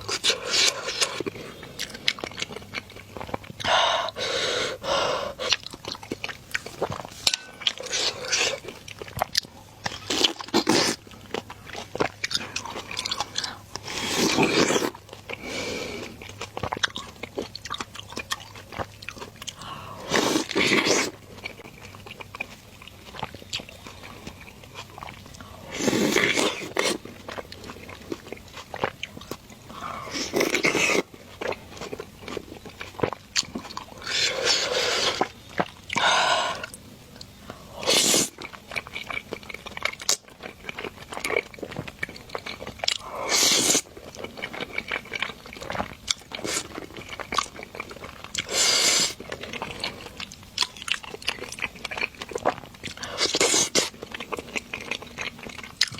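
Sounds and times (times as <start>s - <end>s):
person chewing noodles: 0.0s - 55.9s.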